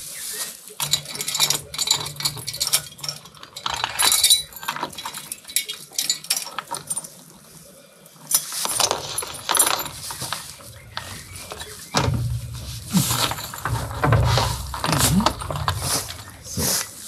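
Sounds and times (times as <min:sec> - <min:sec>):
metal clinking and knocking: 0:00.8 - 0:07.4, 0:08.2 - 0:17.0.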